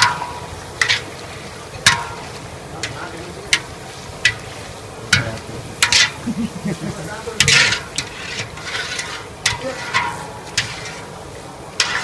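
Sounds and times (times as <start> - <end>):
hot oil sizzling: 0.0 - 12.0
wire skimmer scraping wok: 0.0 - 12.0.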